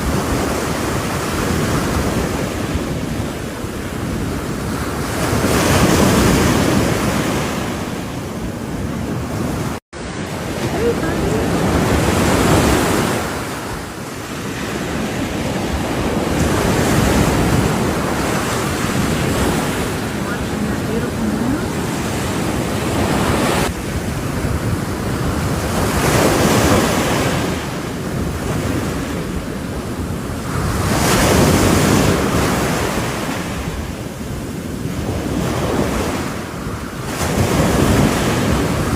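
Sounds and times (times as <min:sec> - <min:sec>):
ocean waves breaking: 0:00.0 - 0:38.9
wind on microphone: 0:00.0 - 0:38.9.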